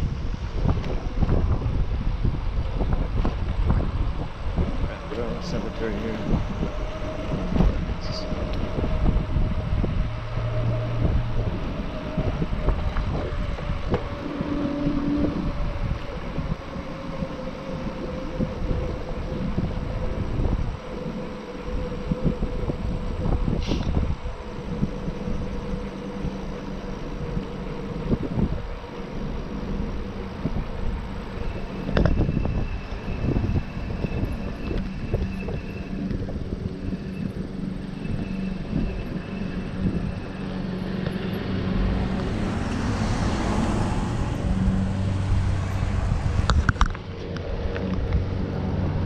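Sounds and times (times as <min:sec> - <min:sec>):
steady low hum: 0:00.0 - 0:49.0
tyres rumbling on asphalt: 0:00.0 - 0:49.0
wind on microphone: 0:00.0 - 0:49.0.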